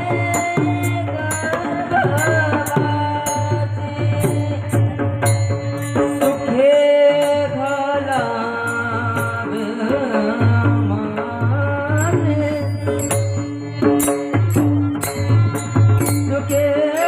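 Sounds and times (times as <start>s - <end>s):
drum: 0.0s - 17.0s
person singing: 0.0s - 17.0s.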